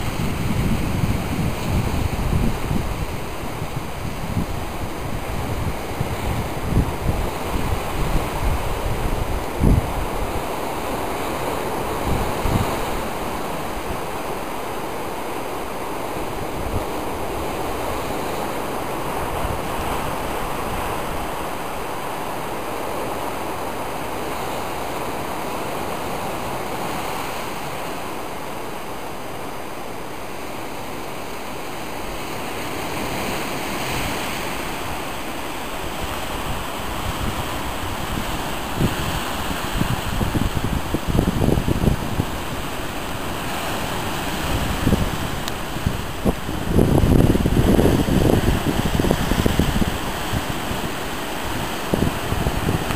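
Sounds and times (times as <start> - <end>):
wind buffeting microphone: 0.0 - 31.3, 31.9 - 52.9
surf breaking over rocks: 0.0 - 52.9.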